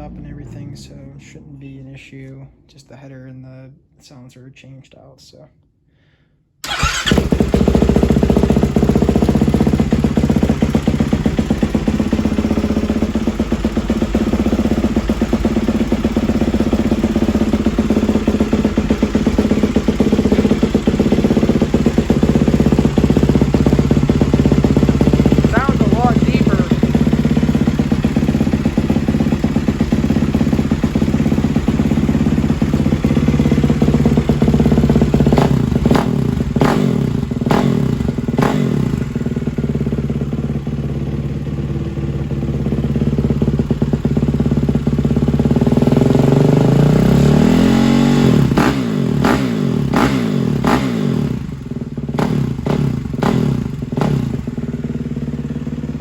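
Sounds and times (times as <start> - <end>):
motorcycle engine revving: 0.0 - 2.1, 6.6 - 56.0.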